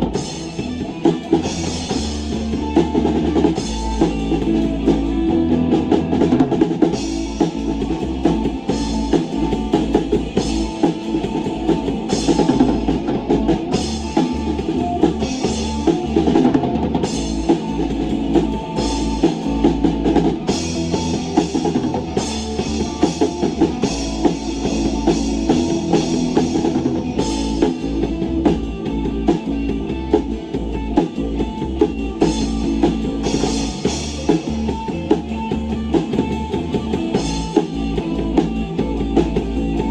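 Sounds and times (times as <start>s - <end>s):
drum kit beat: 0.0s - 39.9s
guitar: 0.0s - 39.9s.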